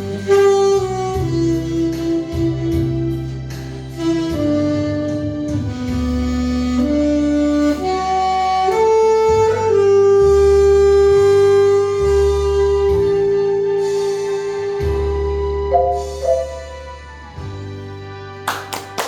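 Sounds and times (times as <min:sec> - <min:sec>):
saxophone playing slow melody: 0:00.0 - 0:18.2
backing track with bass: 0:00.0 - 0:19.0.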